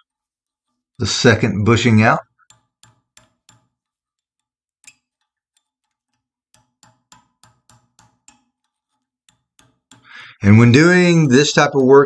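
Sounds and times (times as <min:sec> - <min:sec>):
metal-on-metal taps: 0:02.2 - 0:12.0.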